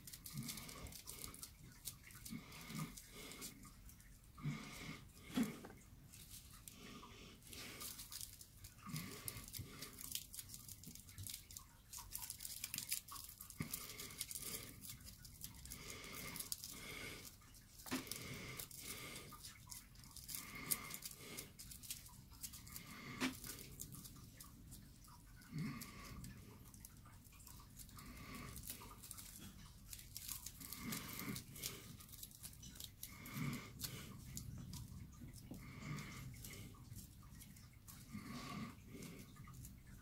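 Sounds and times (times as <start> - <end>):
aluminium foil crinkling: 0.0 - 40.0.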